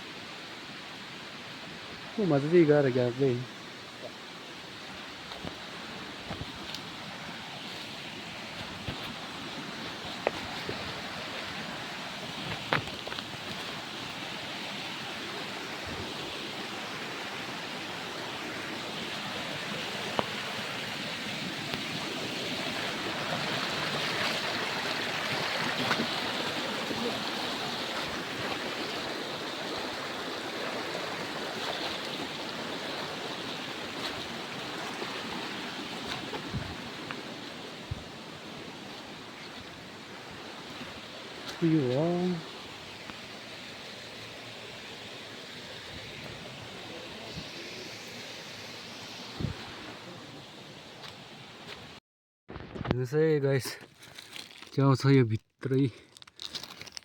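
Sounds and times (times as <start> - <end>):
stream running water: 0.0 - 52.0.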